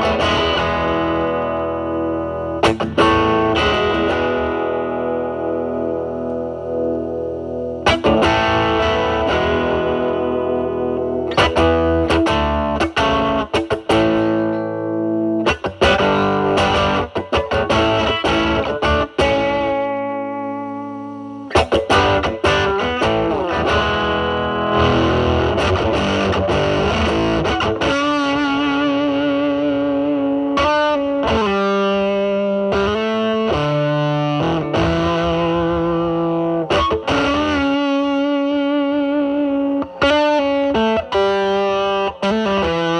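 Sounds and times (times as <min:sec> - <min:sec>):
fuzz electric guitar playing: 0:00.0 - 0:42.9.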